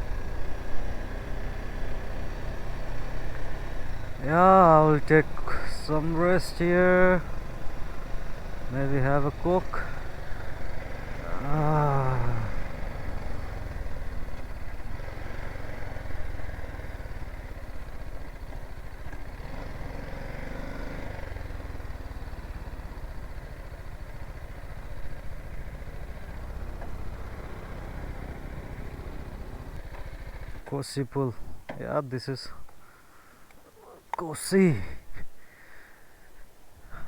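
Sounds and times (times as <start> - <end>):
motorcycle engine idling: 0.0 - 30.8, 32.6 - 34.2.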